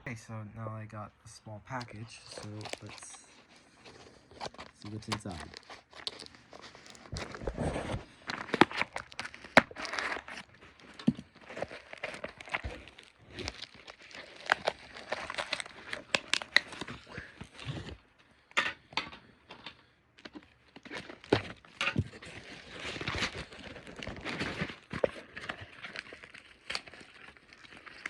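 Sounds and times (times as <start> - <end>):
packaging crinkling and tearing: 1.7 - 28.0.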